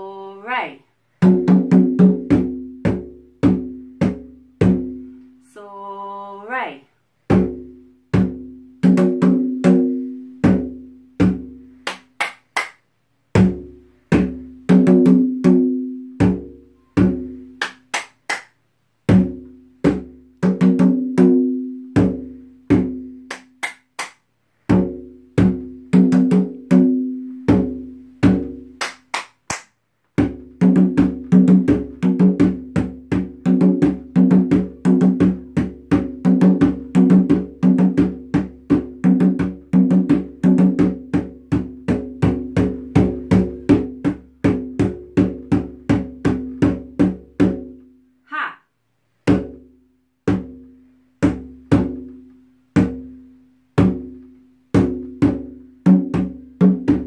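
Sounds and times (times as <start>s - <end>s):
djembe played with bare hands: 1.2s - 5.1s, 7.3s - 11.9s, 13.3s - 17.7s, 19.1s - 23.4s, 24.7s - 28.9s, 30.2s - 48.0s, 49.2s - 57.0s.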